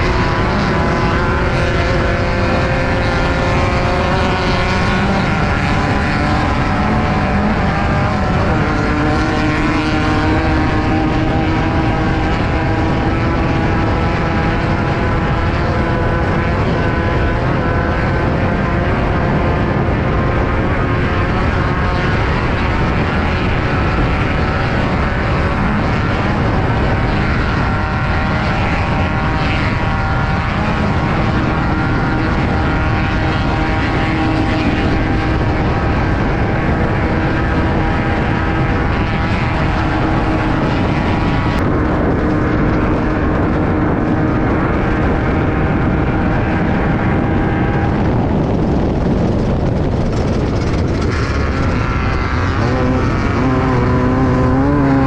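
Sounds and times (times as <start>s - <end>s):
race car engine at high revs: 0.0s - 55.0s
rush of tyres and gravel: 0.0s - 55.0s.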